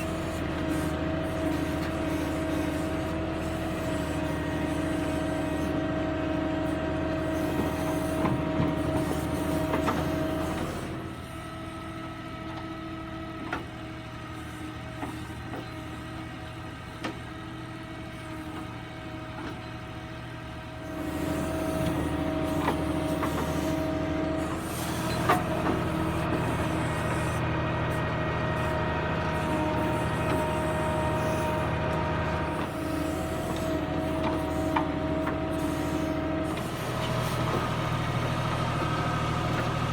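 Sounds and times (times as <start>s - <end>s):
diesel tractor engine: 0.0s - 39.9s.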